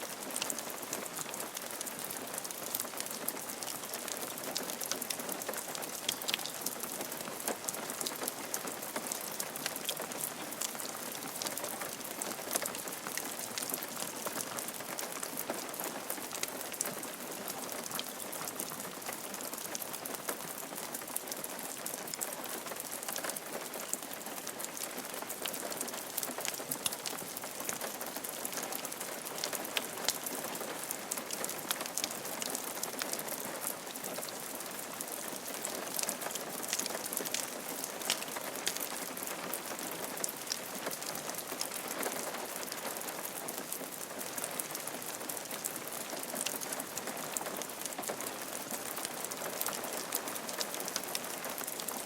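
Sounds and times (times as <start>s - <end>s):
rain on a roof: 0.0s - 52.0s.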